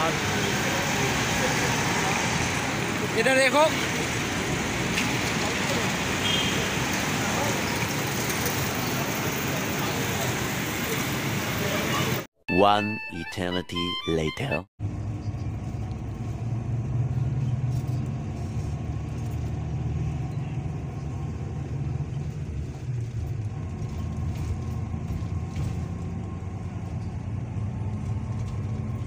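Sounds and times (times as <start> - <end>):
bus engine and road noise: 0.0 - 12.3, 14.8 - 29.0.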